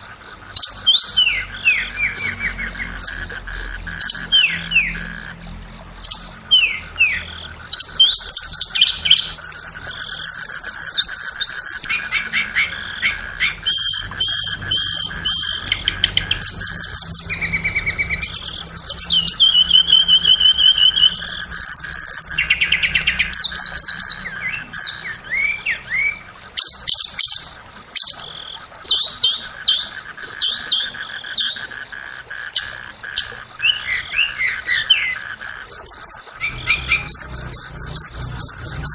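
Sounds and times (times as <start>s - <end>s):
bird song with whistles and trills: 0.0s - 5.1s, 6.0s - 31.8s, 32.6s - 38.9s.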